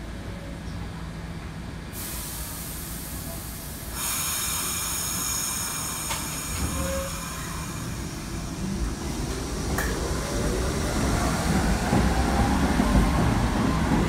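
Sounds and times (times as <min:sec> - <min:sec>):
subway train hiss: 0:00.0 - 0:14.0
high squeal of train: 0:02.0 - 0:14.0.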